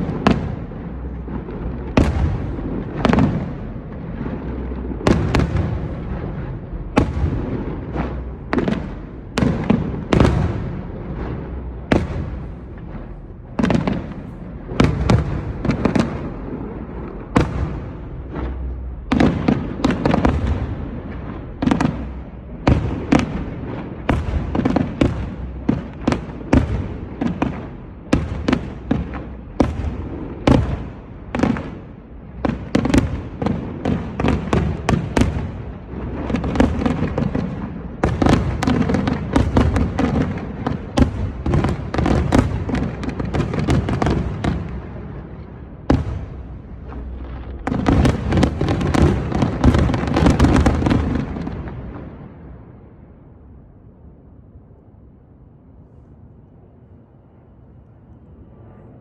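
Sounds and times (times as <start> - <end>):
fireworks bangs and crackling: 0.0 - 53.5.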